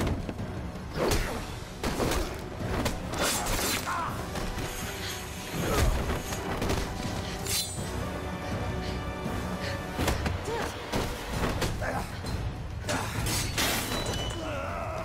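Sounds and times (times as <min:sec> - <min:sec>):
dramatic music score: 0:00.0 - 0:15.0.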